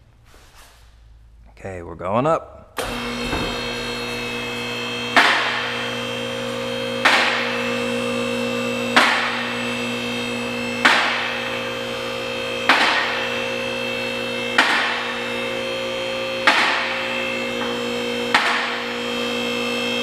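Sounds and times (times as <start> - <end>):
hydraulic pump motor humming: 2.8 - 20.0.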